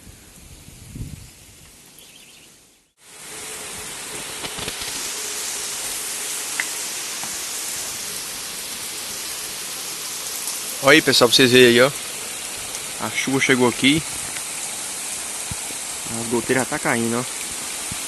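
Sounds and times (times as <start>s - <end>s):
heavy rain pouring: 3.0s - 18.0s.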